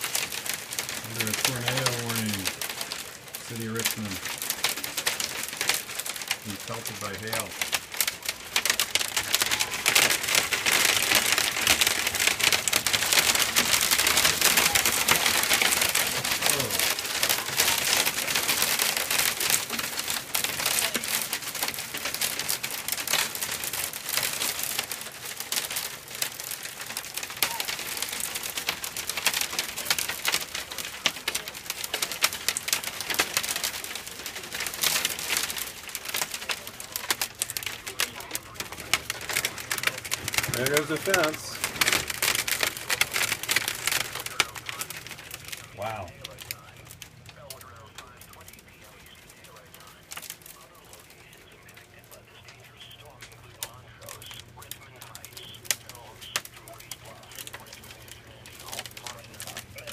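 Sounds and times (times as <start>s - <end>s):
rain and hail on window: 0.0s - 59.9s.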